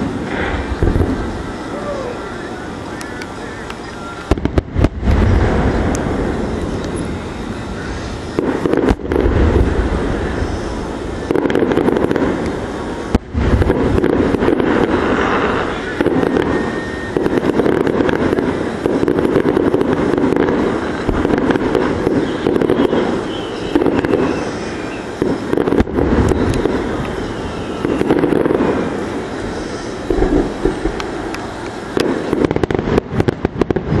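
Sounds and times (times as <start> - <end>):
fireworks bursting: 0.0 - 34.0
fireworks crackling: 0.0 - 34.0
sharp bangs: 0.0 - 34.0.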